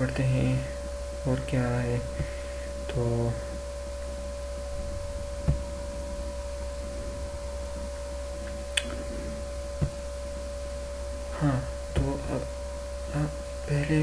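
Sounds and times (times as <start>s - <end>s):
constant mid-pitched tone: 0.0s - 14.0s
electrical mains hum: 0.0s - 14.0s.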